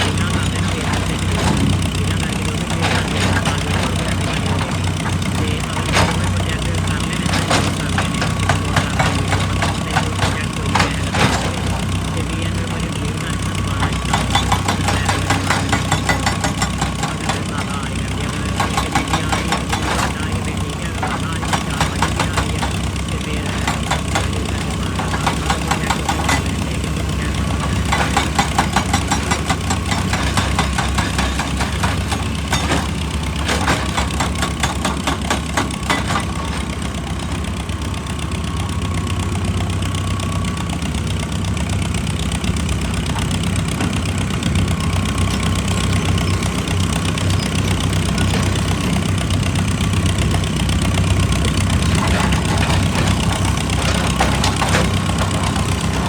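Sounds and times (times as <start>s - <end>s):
excavator diesel engine: 0.0s - 56.0s
rattling and clattering: 0.0s - 56.0s.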